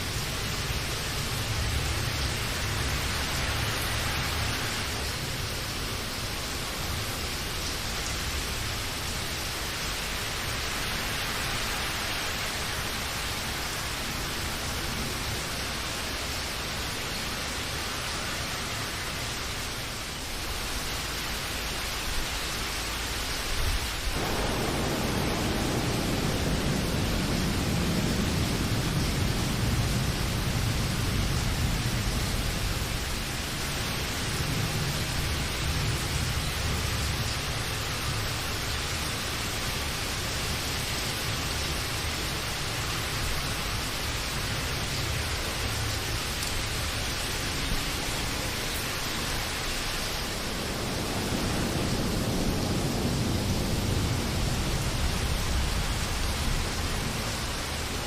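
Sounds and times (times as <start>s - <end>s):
low rumble of thunder: 0.0s - 16.7s, 23.4s - 58.0s
steady rain falling: 0.0s - 58.0s.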